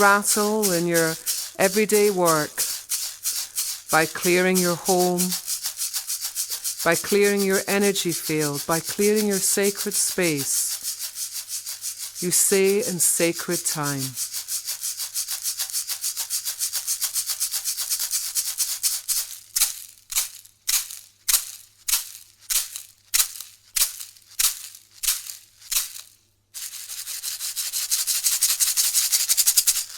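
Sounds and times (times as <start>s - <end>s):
hand rattle shaking: 0.0s - 29.9s.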